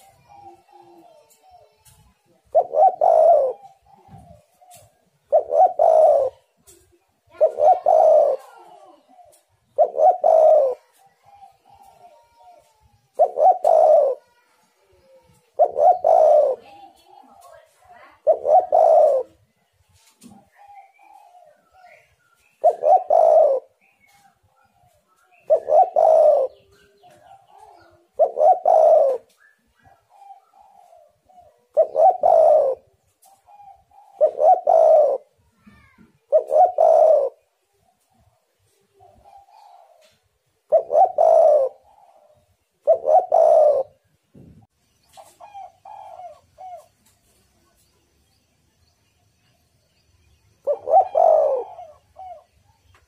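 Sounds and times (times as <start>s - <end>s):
dove cooing: 0.0s - 44.5s, 45.1s - 47.4s, 50.6s - 53.0s
faint bird calls: 0.0s - 48.0s, 50.2s - 53.0s.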